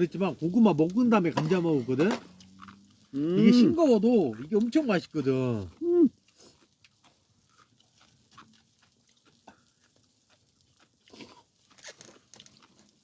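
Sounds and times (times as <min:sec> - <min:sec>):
person chewing softly: 0:00.0 - 0:13.0.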